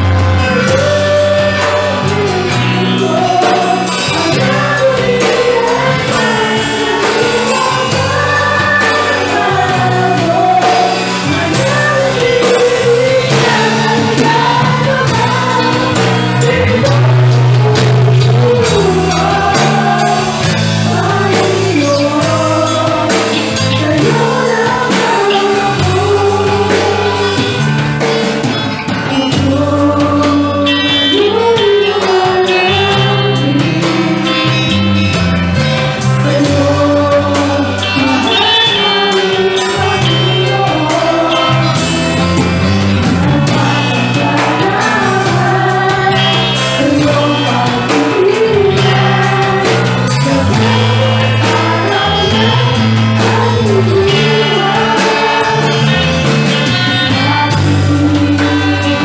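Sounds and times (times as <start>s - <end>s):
group singing a worship song: 0.0s - 59.0s
instrumental accompaniment: 0.0s - 59.0s.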